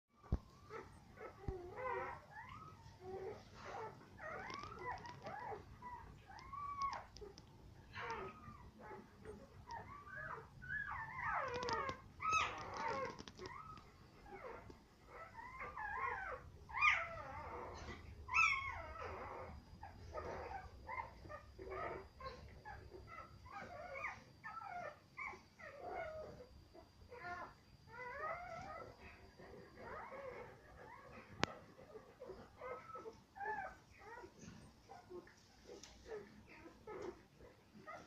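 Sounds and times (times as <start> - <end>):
puppies whimpering and squealing: 0.2 - 38.0.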